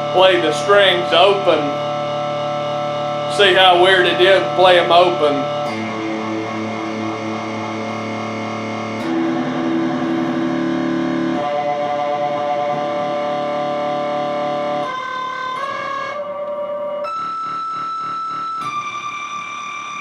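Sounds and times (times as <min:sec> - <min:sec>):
electric guitar with warbling delay: 0:00.0 - 0:20.0.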